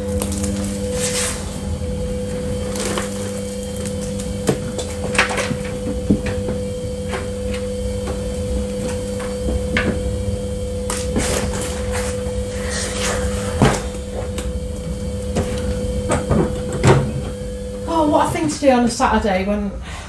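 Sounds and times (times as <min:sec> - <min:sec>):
low rumble: 0:00.0 - 0:18.6
electrical hum: 0:00.0 - 0:20.0.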